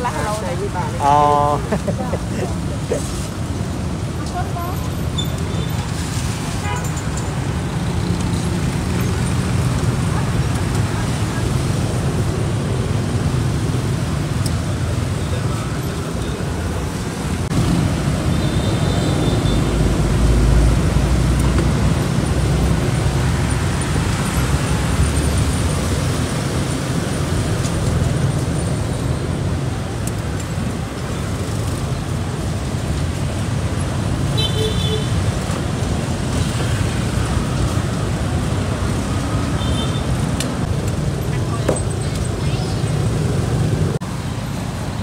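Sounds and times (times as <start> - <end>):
street traffic rumble: 0.0 - 45.0.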